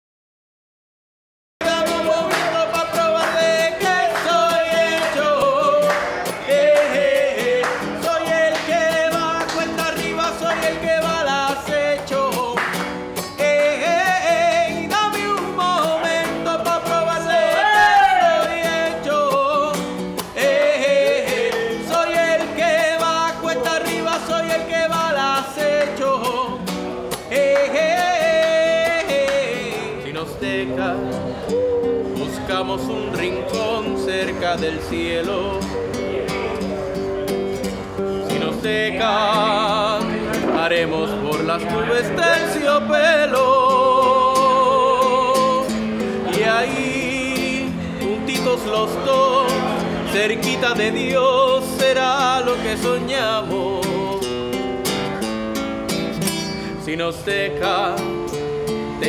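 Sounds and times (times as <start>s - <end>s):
man singing: 1.6s - 55.4s, 56.3s - 59.0s
classical guitar strummed and plucked: 1.6s - 59.0s.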